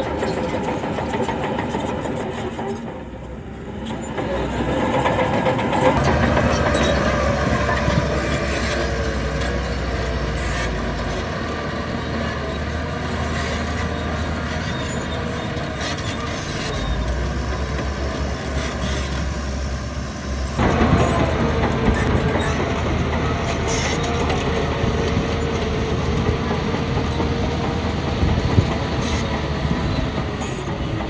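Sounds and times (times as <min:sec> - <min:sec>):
diesel machinery engine rumble: 0:00.0 - 0:31.0
machinery rattling and clanking: 0:00.0 - 0:31.0.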